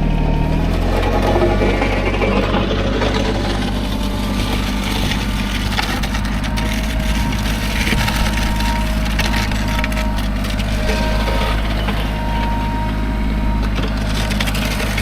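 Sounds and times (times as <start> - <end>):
tractor diesel engine running: 0.0 - 15.0
blade scraping snow: 2.8 - 15.0.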